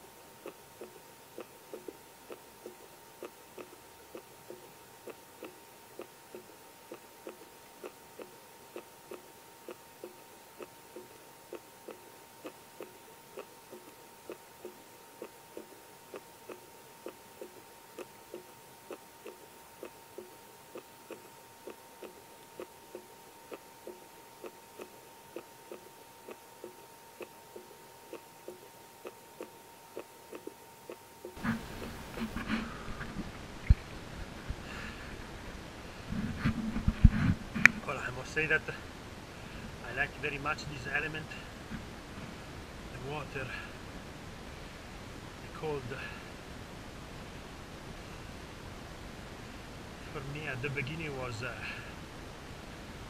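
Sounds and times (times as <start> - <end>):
faint high hum: 0.0 - 53.0.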